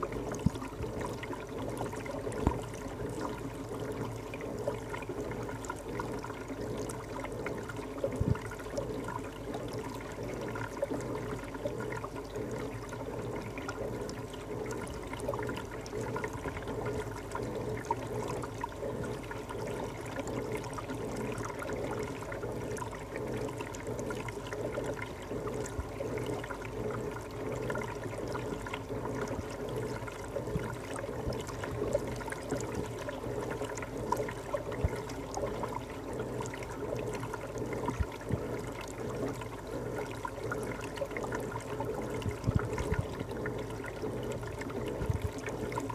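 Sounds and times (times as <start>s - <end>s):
water trickling and gurgling: 0.0s - 45.9s.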